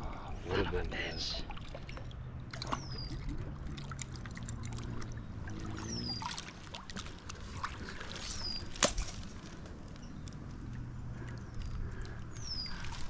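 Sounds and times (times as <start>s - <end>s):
water sloshing and trickling: 0.0s - 13.0s.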